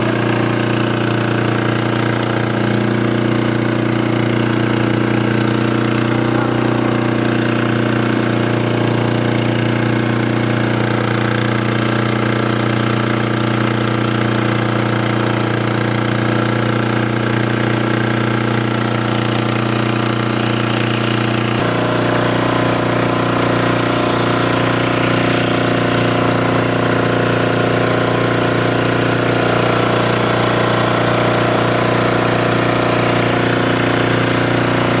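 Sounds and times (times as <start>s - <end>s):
diesel generator running: 0.0s - 35.0s.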